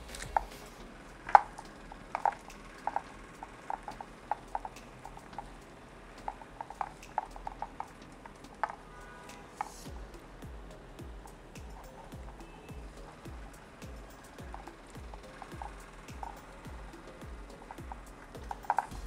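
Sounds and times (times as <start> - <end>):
plastic parts clicking and tapping: 0.0 - 19.0.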